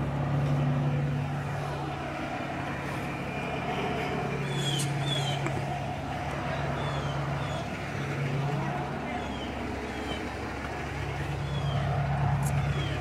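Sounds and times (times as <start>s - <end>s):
traffic noise: 0.0s - 13.0s
vehicle engines hum: 0.0s - 13.0s.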